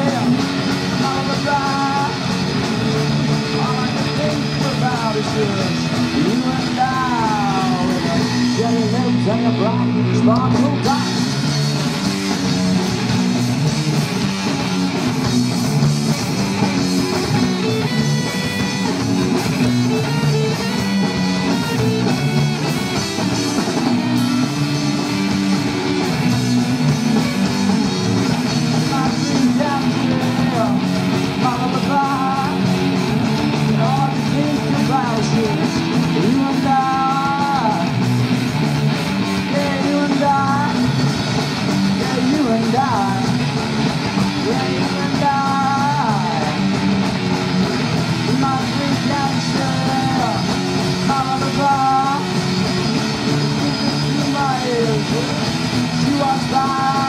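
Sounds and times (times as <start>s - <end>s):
lead guitar bending notes: 0.0s - 57.0s
rock band playing instrumental: 0.0s - 57.0s.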